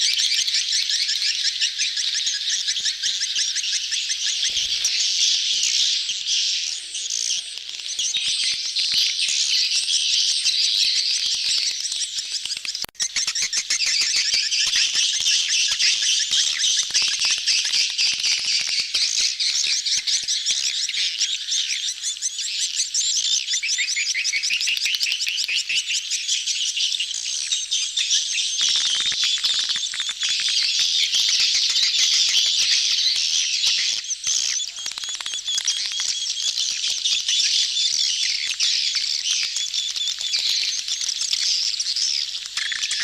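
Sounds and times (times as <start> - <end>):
swiftlets chirping chorus: 0.0 - 43.0.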